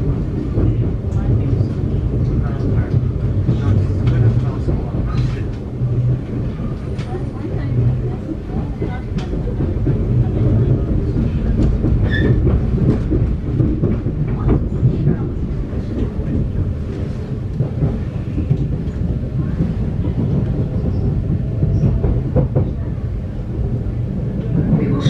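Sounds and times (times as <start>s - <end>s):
train rumbling inside carriage: 0.0s - 25.0s.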